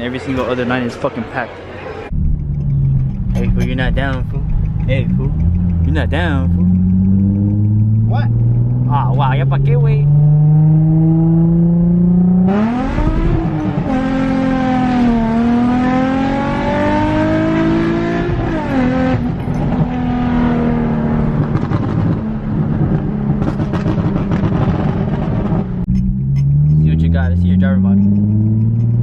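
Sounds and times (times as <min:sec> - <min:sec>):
car engine revving: 0:02.1 - 0:29.0.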